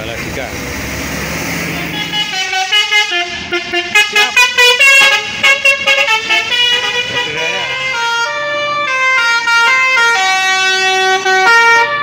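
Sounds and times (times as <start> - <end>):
bus engine: 0.0 - 12.0
bus musical horn: 1.6 - 12.0.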